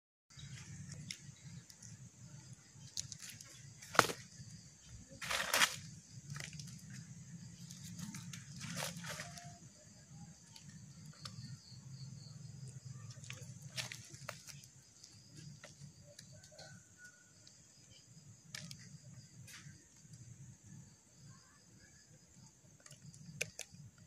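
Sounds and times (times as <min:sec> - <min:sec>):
high insect drone: 0:00.3 - 0:24.0.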